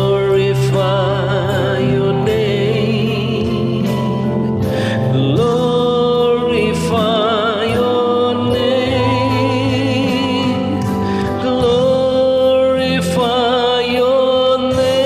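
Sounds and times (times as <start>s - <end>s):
instrumental backing: 0.0s - 15.0s
person singing worship song: 0.0s - 15.0s.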